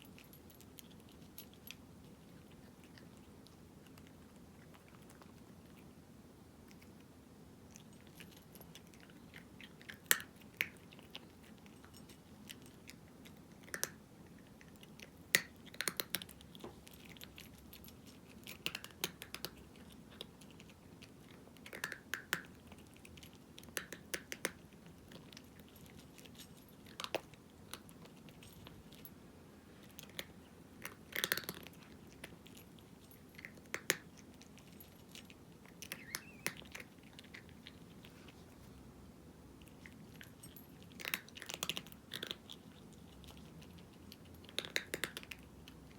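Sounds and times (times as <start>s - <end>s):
cat crunching dry kibble: 0.0s - 6.0s, 6.6s - 29.1s, 29.8s - 38.5s, 39.6s - 45.9s.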